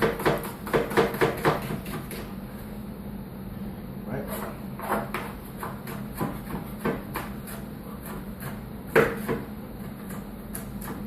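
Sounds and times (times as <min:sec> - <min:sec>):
knife chopping on cutting board: 0:00.0 - 0:02.3, 0:04.3 - 0:11.0
steady low hum: 0:00.0 - 0:11.0.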